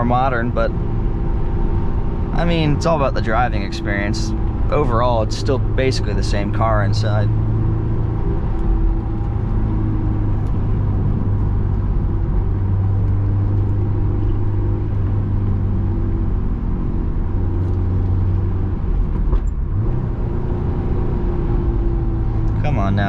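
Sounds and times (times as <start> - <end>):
car engine running: 0.0 - 23.0
road noise: 0.0 - 23.0.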